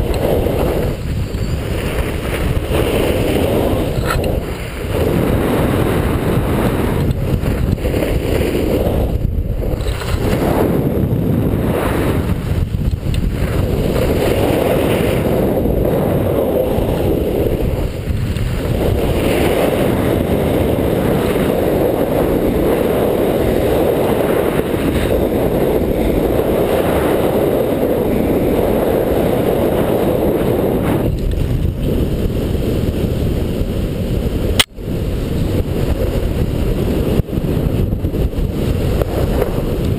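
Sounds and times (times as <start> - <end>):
snowboard edge scraping snow: 0.0 - 39.9
wind rushing over camera: 0.0 - 39.9.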